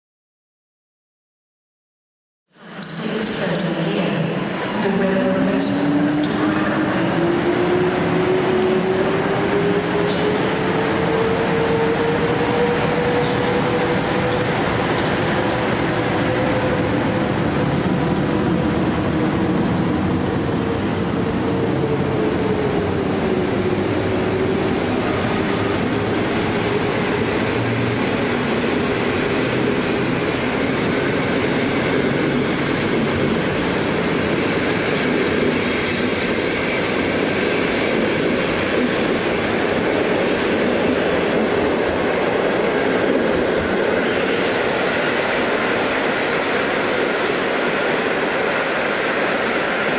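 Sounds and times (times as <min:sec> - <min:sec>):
train wheels rumbling on rails: 0:03.3 - 0:49.9.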